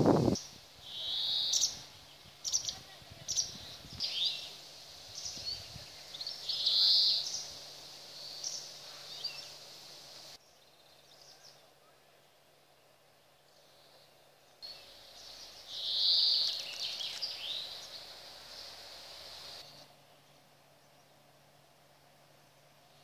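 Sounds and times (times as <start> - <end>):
songbirds chirping and trilling: 0.1 - 21.7.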